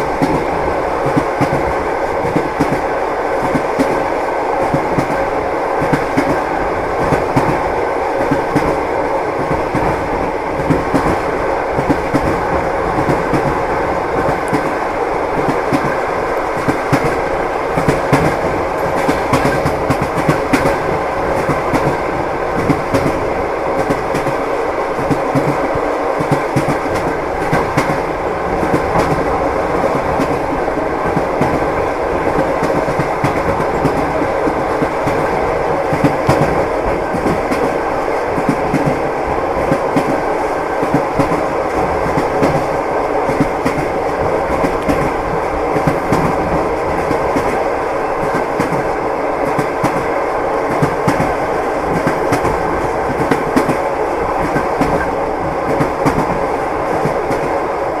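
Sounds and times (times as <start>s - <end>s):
train wheels clattering: 0.0s - 57.6s
moving train rumble: 0.0s - 58.0s.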